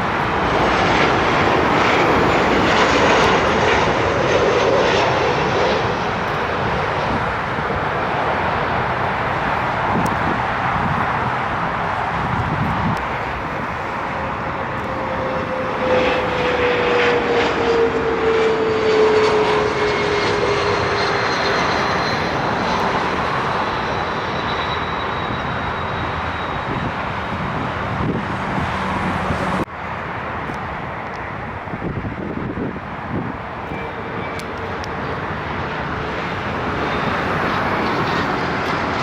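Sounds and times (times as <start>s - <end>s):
airliner jet roar: 0.0s - 39.0s.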